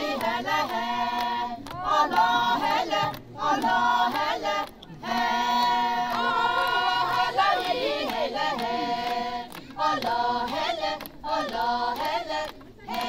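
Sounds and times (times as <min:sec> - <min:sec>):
women singing in unison: 0:00.0 - 0:13.0.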